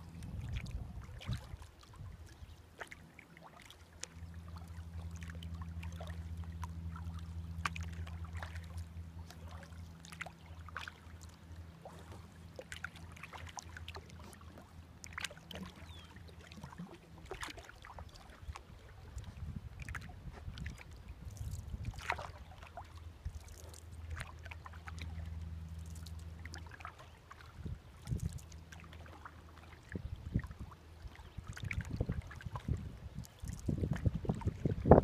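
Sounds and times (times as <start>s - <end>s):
low steady rumble: 0.0s - 35.0s
paddle splashes and drips: 0.0s - 35.0s.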